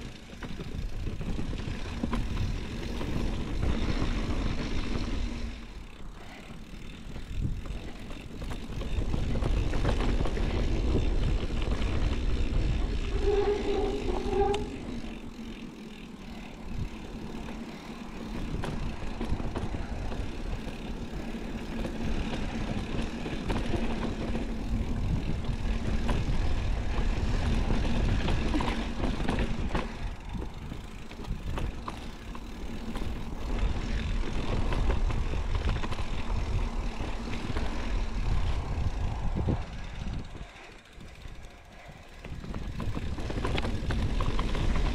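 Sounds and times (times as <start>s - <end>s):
wind rumbling on microphone: 0.0s - 15.6s, 18.2s - 44.9s
bike rattles and knocks: 0.0s - 44.9s
tyres crunching on dirt trail: 0.0s - 44.9s.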